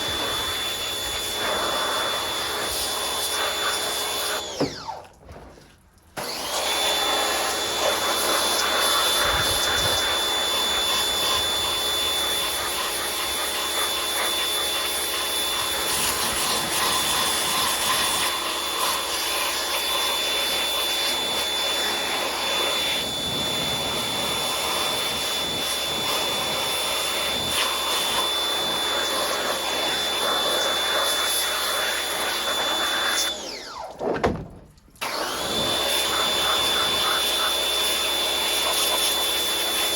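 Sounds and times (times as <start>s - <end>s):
pressure washer motor whine: 0.0s - 5.2s, 6.2s - 39.9s.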